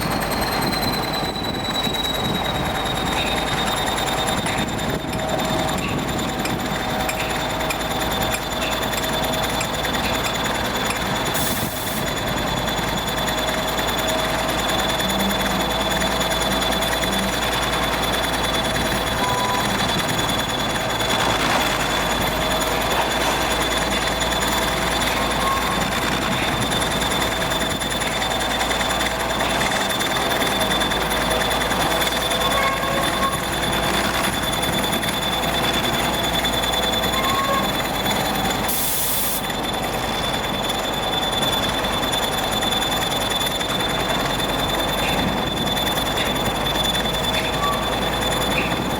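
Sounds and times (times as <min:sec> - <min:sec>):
heavy machinery with high whine: 0:00.0 - 0:48.9.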